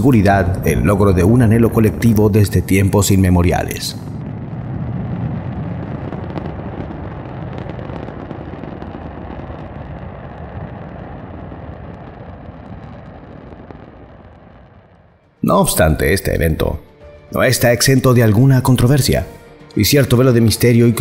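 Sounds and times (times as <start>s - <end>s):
rocket engines crackling rumble: 0.0s - 21.0s.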